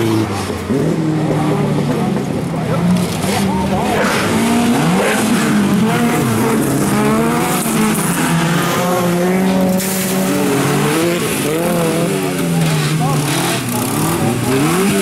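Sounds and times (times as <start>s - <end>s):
race car engines revving: 0.0s - 15.0s
tyres skidding: 0.0s - 15.0s.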